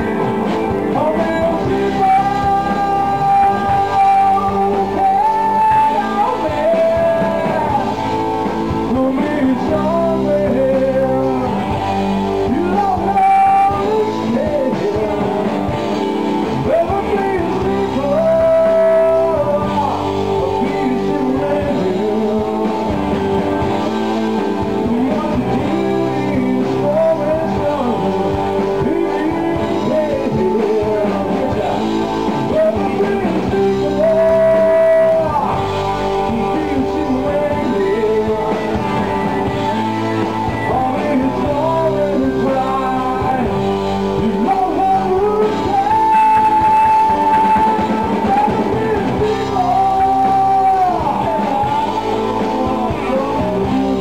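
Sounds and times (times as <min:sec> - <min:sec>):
live rock band playing: 0:00.0 - 0:54.0
melody holding long notes: 0:00.0 - 0:54.0.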